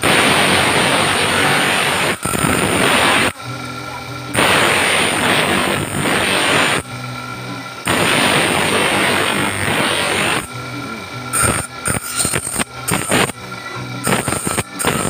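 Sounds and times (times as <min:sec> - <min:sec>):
grinder motor humming: 0:00.0 - 0:15.0
grinder wheel grinding metal: 0:00.0 - 0:15.0.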